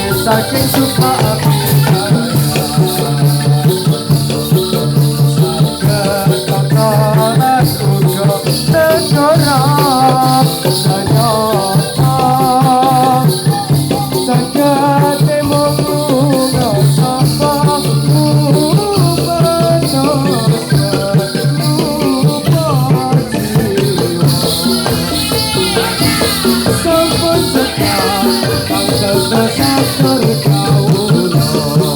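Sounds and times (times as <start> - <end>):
jingling ankle bells: 0.0 - 31.9
person singing wavering melody: 0.0 - 31.9.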